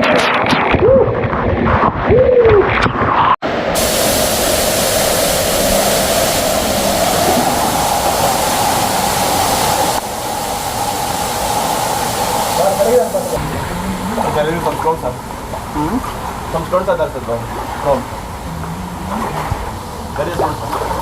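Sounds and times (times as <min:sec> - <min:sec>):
waterfall rushing in cavern: 0:03.4 - 0:21.0.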